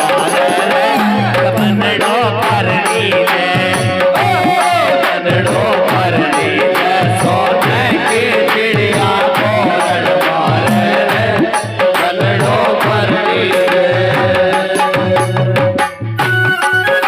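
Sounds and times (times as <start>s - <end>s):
electronic organ melody: 0.0s - 17.0s
hand drum beating rhythm: 0.0s - 17.0s.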